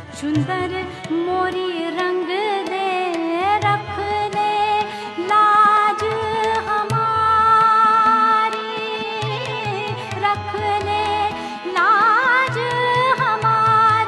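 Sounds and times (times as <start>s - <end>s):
harmonium tones: 0.0s - 14.0s
woman singing: 0.0s - 14.0s.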